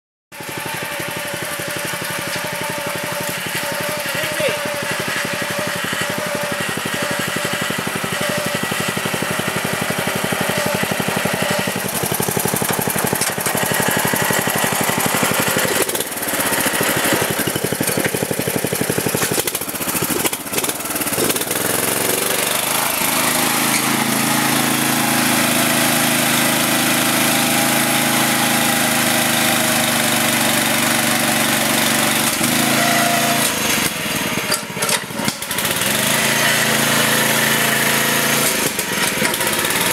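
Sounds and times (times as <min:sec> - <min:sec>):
riding lawn mower engine: 0:00.3 - 0:39.9.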